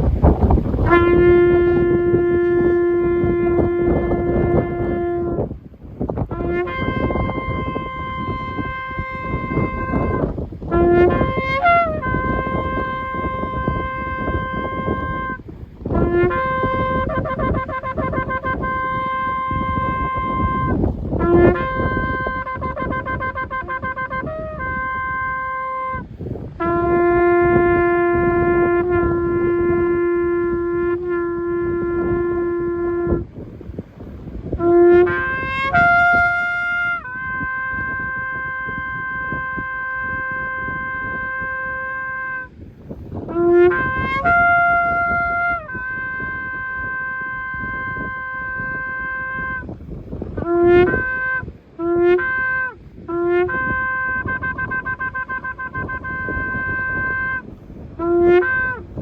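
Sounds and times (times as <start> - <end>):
shofar blasts: 0.0 - 59.0.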